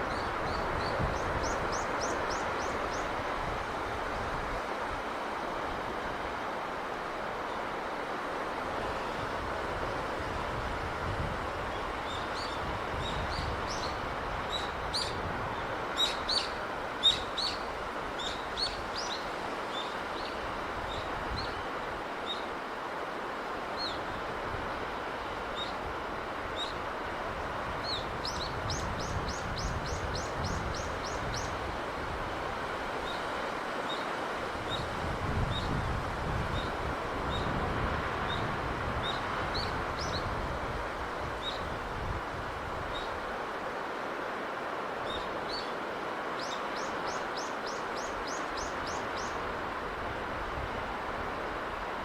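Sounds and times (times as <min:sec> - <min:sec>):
sea breeze rushing: 0:00.0 - 0:52.0.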